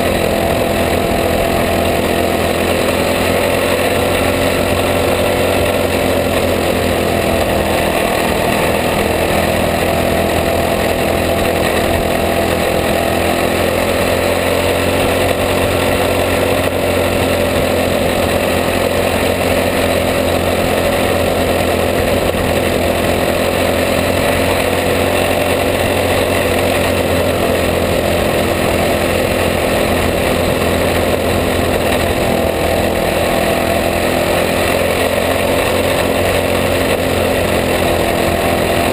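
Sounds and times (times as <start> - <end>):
kart engine running hard: 0.0 - 38.9.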